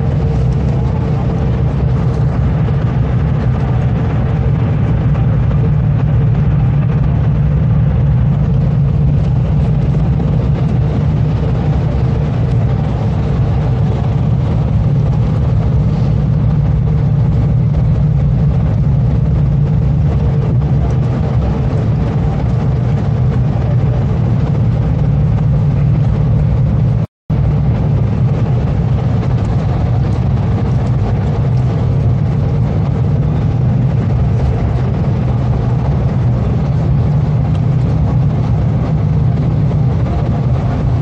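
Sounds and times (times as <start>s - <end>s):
bus engine and road rumble: 0.0s - 41.0s.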